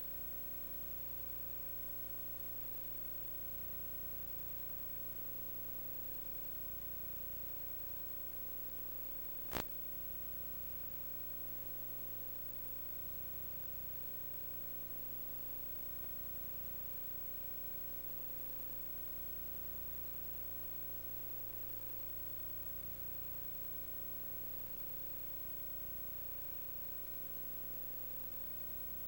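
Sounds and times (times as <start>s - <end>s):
electrical hum: 0.0s - 29.0s
faint steady tone: 0.0s - 29.0s
low hiss: 0.0s - 29.0s.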